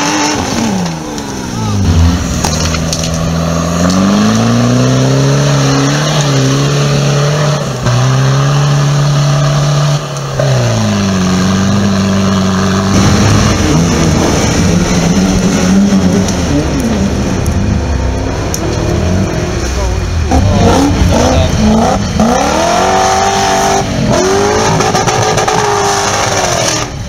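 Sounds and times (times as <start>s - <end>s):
off-road engines revving hard: 0.0s - 27.0s.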